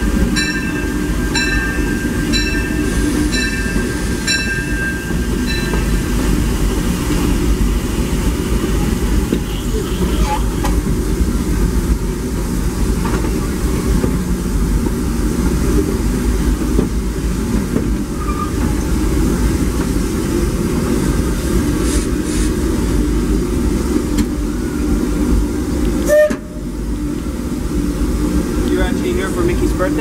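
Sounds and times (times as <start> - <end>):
steam train rumbling on rails: 0.0 - 30.0.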